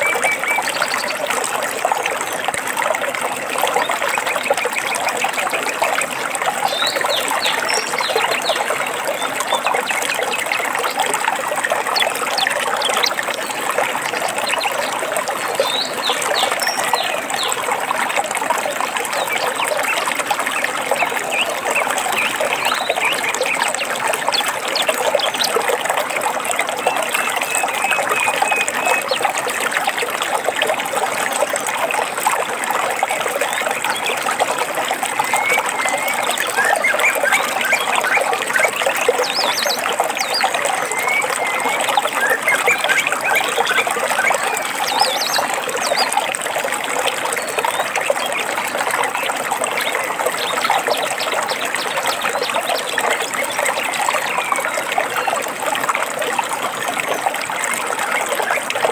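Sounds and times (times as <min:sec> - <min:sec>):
stream water babbling: 0:00.0 - 0:58.9.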